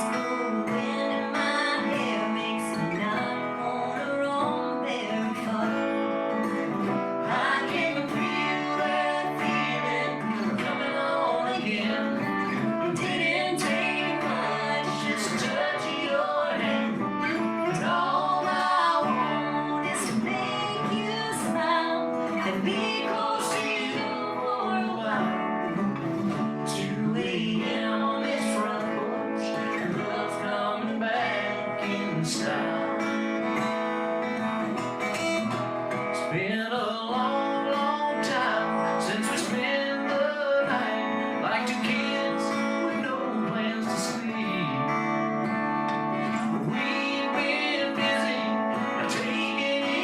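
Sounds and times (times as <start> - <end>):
person singing: 0.0 - 33.8, 35.2 - 50.0
acoustic guitar strumming: 0.0 - 50.0.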